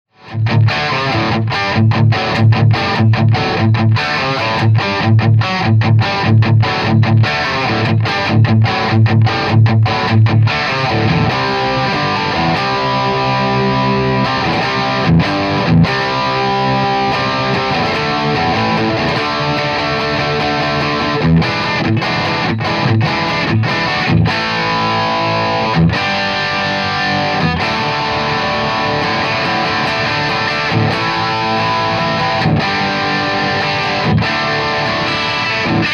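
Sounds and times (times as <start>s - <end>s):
distorted electric guitar: 0.1s - 35.9s.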